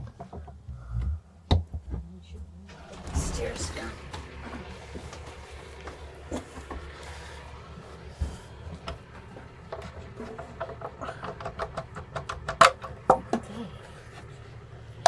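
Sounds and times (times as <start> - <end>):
faint diesel engine idling: 2.2 - 15.0.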